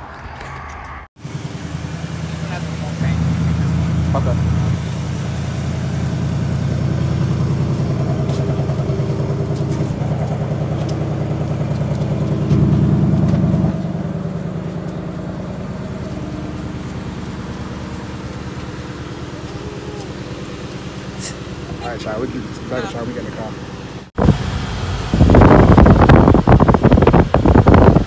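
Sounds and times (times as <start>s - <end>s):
car engine idling: 1.1s - 28.0s.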